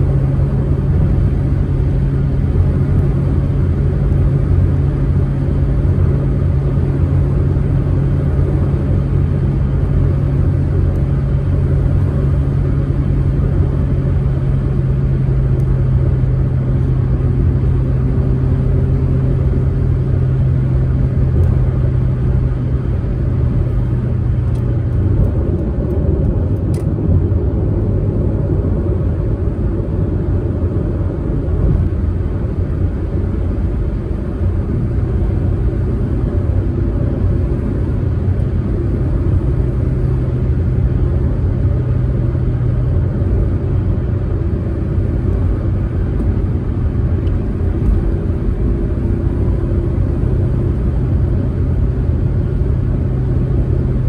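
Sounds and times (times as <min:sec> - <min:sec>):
car engine running: 0:00.0 - 0:54.0
road and tyre rumble: 0:00.0 - 0:54.0.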